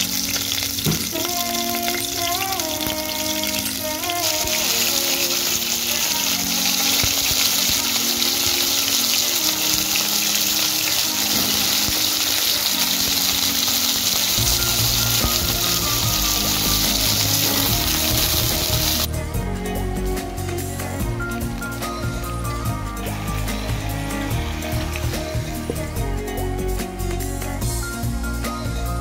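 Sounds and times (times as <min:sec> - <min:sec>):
food sizzling in hot oil: 0:00.0 - 0:19.1, 0:21.4 - 0:26.0
background music: 0:00.0 - 0:29.0.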